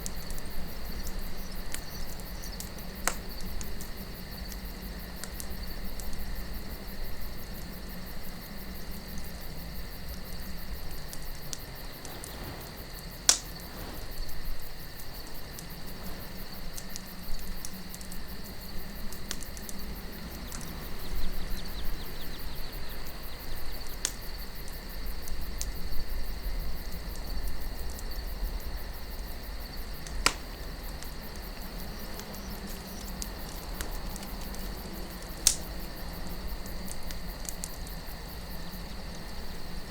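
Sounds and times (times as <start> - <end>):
campfire crackling and popping: 0.0 - 39.9
crickets chirring: 0.0 - 39.9
low wind rumble: 0.0 - 39.9.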